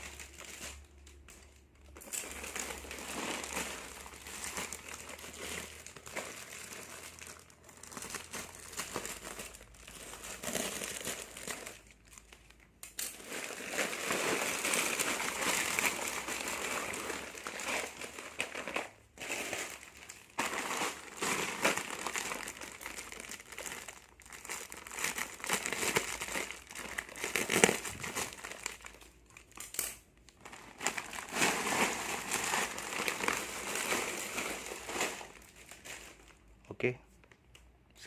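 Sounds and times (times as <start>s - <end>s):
plastic packaging crinkling: 0.0s - 36.6s.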